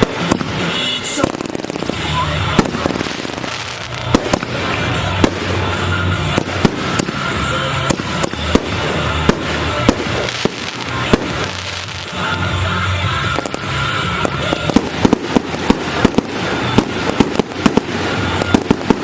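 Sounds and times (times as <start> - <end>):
dense fireworks noise: 0.0 - 19.0
fireworks bangs: 0.0 - 19.0.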